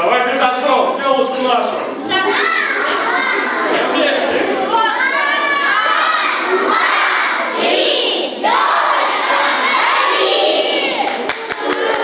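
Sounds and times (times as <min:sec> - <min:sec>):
children shouting and cheering: 0:02.0 - 0:12.0.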